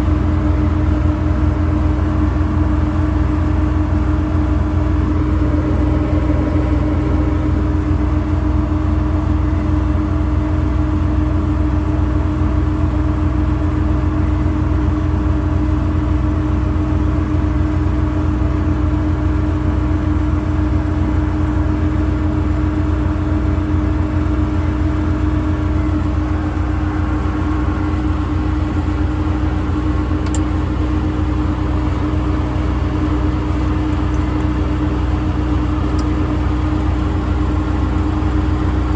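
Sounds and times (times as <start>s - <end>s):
constant hum: 0.0s - 12.0s, 12.9s - 38.9s
diesel engine running: 0.0s - 38.9s.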